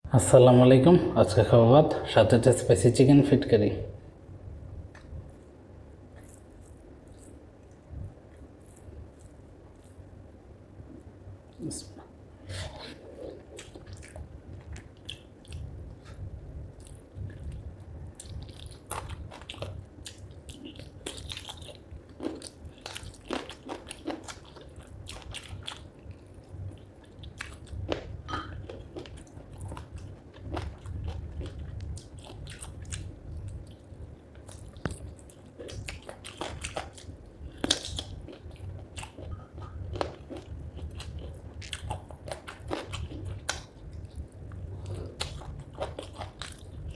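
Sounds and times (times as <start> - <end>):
person chewing with crunches: 6.1 - 10.2, 12.4 - 46.9.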